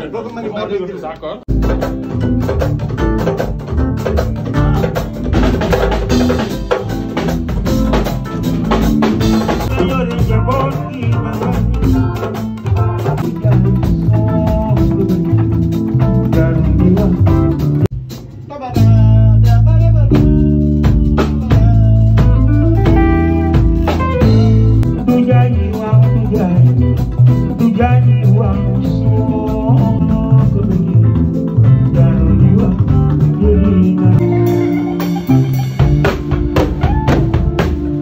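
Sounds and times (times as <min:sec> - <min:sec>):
drum kit: 0:00.0 - 0:38.0
keyboards: 0:00.0 - 0:38.0
bass guitar: 0:01.3 - 0:38.0
electric guitars: 0:01.5 - 0:38.0.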